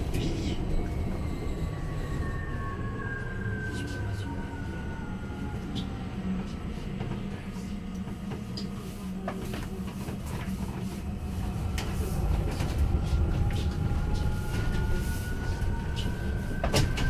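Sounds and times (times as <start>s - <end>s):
bus road rumble: 0.0s - 17.0s.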